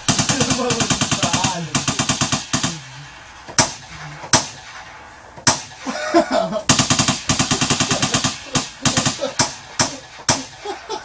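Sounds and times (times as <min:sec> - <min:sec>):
single gunshots: 0:00.0 - 0:10.8
machine-gun fire: 0:00.0 - 0:11.0.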